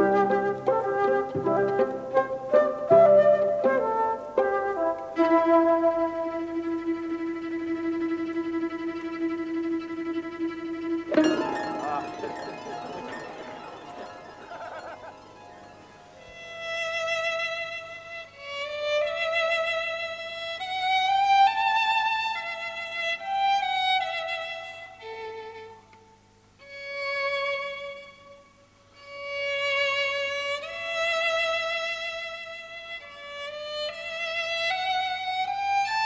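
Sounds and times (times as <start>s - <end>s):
violin playing slow melody: 4.4s - 36.0s.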